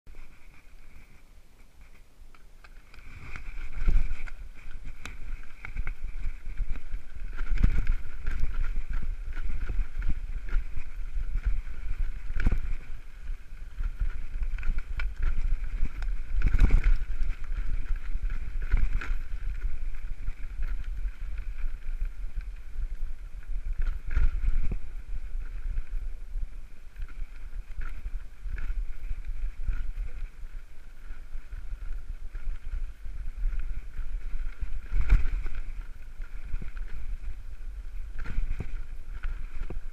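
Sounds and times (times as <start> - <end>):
bike rattling over bumps: 0.1 - 39.9
wind on microphone: 0.1 - 39.9.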